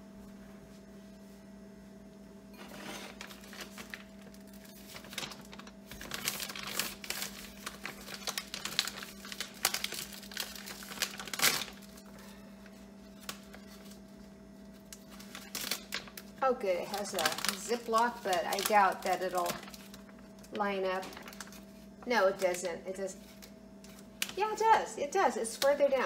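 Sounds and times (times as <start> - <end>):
plastic bag crinkling: 2.6 - 24.7, 25.4 - 26.0.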